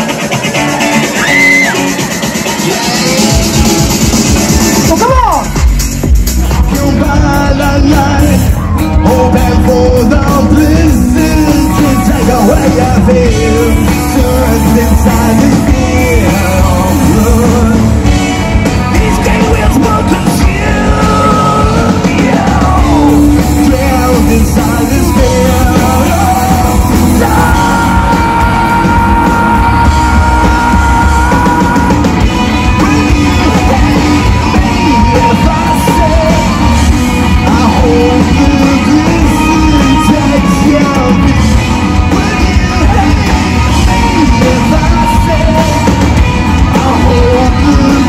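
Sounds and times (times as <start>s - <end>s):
bass guitar: 0.0s - 48.0s
drum kit: 0.0s - 48.0s
electric guitar: 0.0s - 48.0s
man singing: 1.0s - 48.0s.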